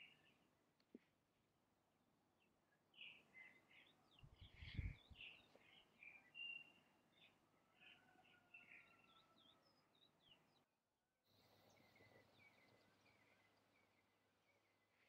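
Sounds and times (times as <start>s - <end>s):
faint bird chirps: 0.0s - 0.4s, 2.6s - 10.6s, 11.3s - 15.0s.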